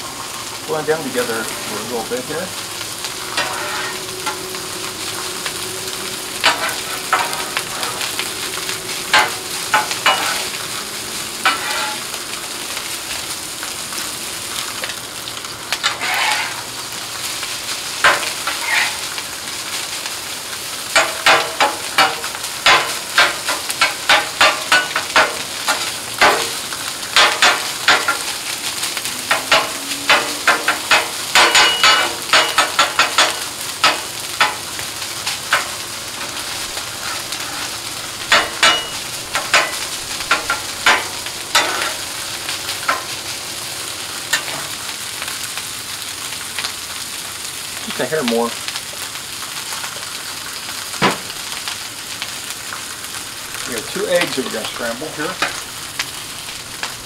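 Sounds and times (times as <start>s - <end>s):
rice sizzling on griddle: 0.0s - 57.0s.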